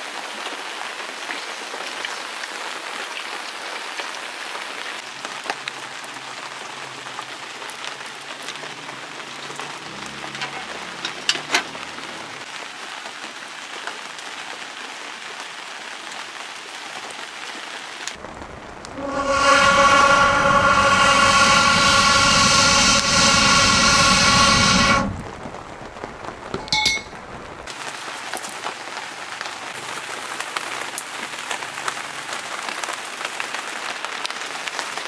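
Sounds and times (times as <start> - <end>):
rain pattering on surfaces: 0.0 - 19.0, 25.2 - 35.0.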